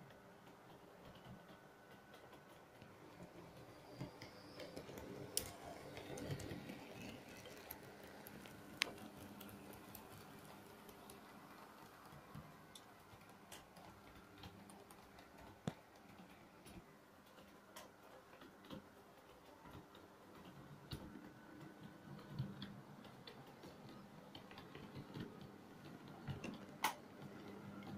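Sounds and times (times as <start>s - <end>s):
model train wheels clicking: 0.0s - 27.9s.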